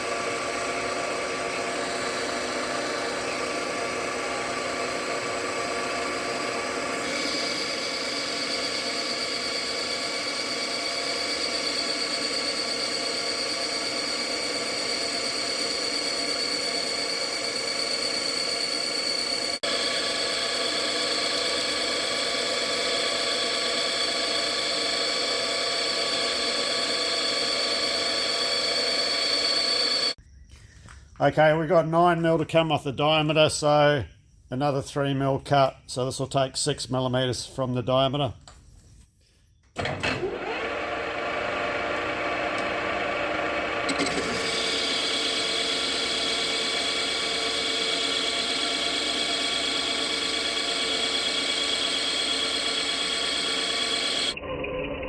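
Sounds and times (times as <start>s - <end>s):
metal lathe whining: 0.0s - 30.2s, 39.8s - 54.4s.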